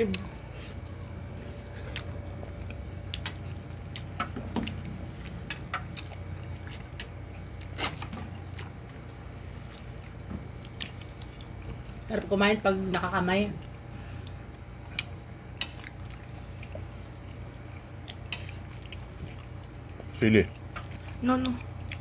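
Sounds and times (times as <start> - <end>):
wet chewing and lip-smacking: 0.0 - 9.1, 9.7 - 12.2, 13.6 - 22.0
steady low hum: 0.0 - 22.0.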